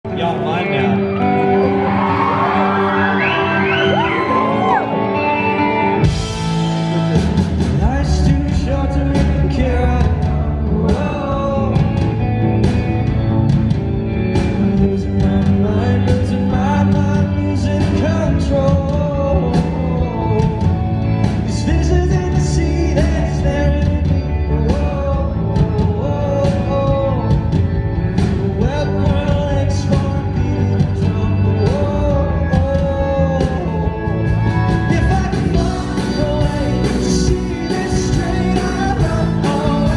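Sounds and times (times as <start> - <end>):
live rock band playing: 0.0 - 39.9
man singing lead vocal: 2.4 - 13.3, 14.4 - 39.9.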